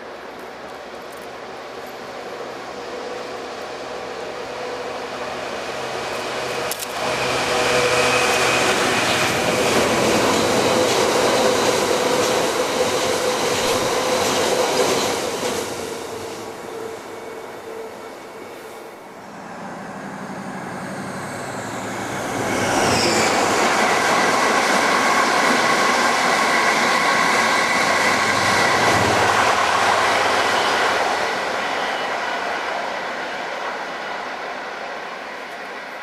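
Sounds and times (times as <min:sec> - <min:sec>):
train passing close by: 0:00.0 - 0:36.0.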